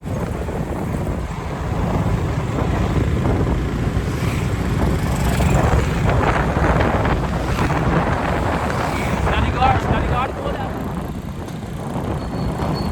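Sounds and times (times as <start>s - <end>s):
faint street sounds: 0.0s - 12.9s
low vehicle rumble: 0.0s - 12.9s
wind buffeting the microphone: 0.0s - 12.9s.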